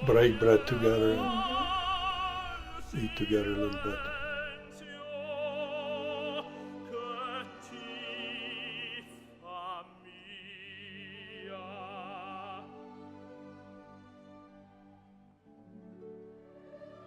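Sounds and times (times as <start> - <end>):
orchestral opera music: 0.0 - 17.0.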